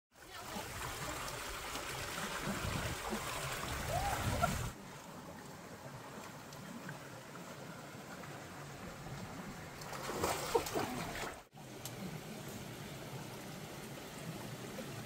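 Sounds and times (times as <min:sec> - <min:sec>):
stream trickling over rocks: 0:00.2 - 0:15.0.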